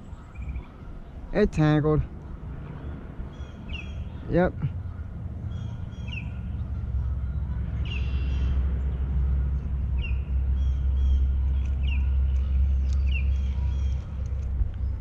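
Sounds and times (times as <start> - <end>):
steady low rumble: 0.0 - 15.0
bird calling: 2.0 - 15.0.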